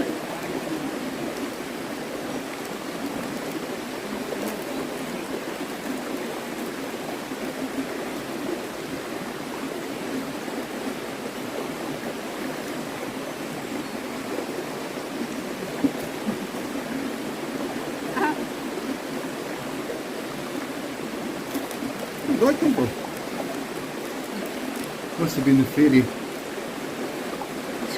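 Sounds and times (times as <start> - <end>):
stream running over rocks: 0.0 - 27.9.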